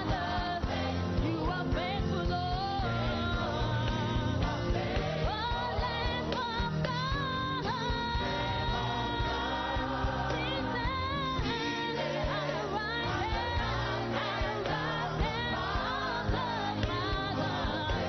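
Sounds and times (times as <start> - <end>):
band accompaniment: 0.0 - 18.0
lead voice singing: 0.0 - 18.0.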